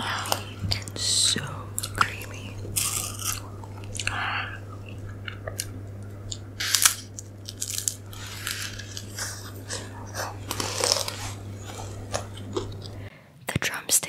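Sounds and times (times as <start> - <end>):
crunching wafer cone: 1.8 - 13.1.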